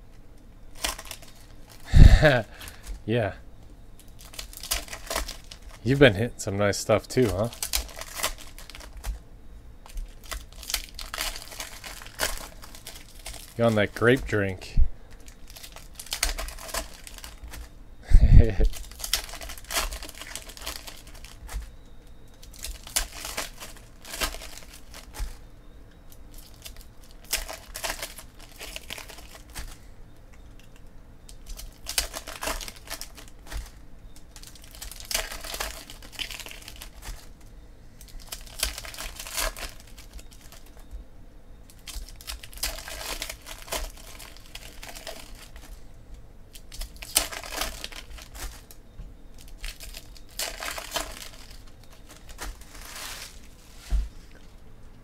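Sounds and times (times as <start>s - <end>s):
foil wrappers crinkling and tearing: 0.7s - 3.3s, 3.9s - 9.2s, 9.8s - 17.8s, 18.4s - 40.9s, 41.6s - 45.9s, 46.5s - 54.4s.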